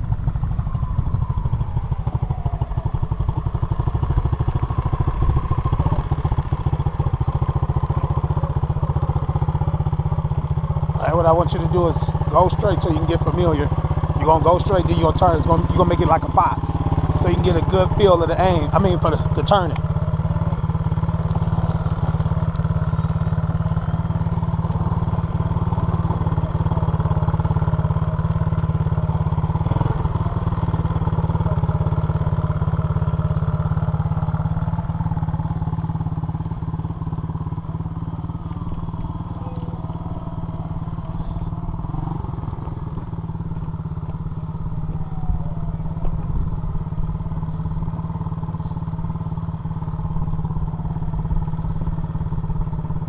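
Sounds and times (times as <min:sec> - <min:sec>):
small motorcycle engine revving: 0:00.0 - 0:53.0.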